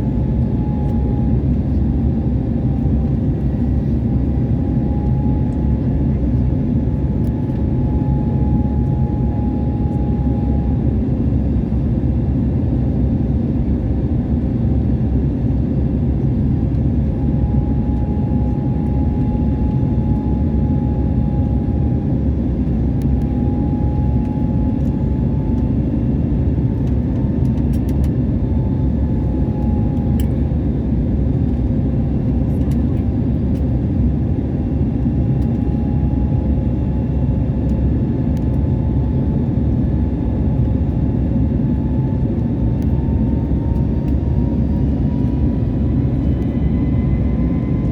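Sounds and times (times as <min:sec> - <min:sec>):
jet airliner cabin noise: 0:00.0 - 0:47.9.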